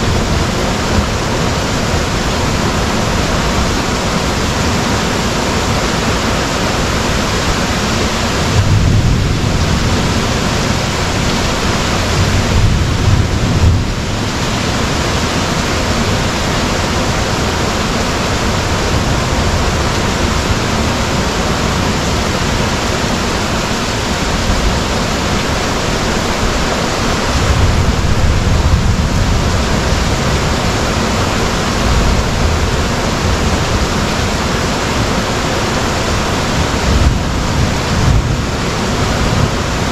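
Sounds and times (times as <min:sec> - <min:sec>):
heavy rain pouring: 0:00.0 - 0:39.9
low rumbles: 0:00.0 - 0:39.9.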